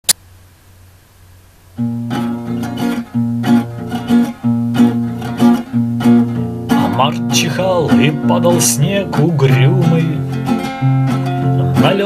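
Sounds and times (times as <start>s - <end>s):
acoustic guitar strumming: 1.8s - 12.0s.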